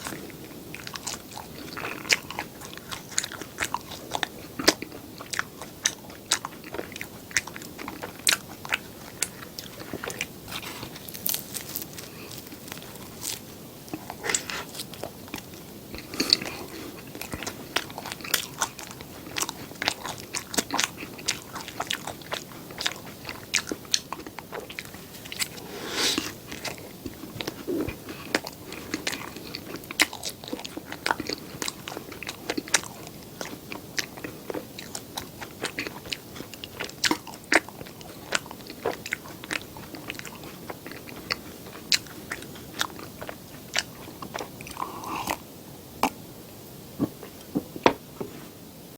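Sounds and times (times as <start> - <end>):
person chewing with crunches: 0.0 - 48.6.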